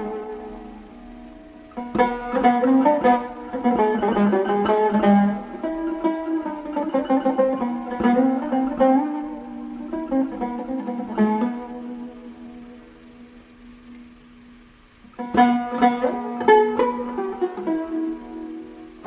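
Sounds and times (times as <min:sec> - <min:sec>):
plucked long-necked lute melody: 0:00.0 - 0:19.0.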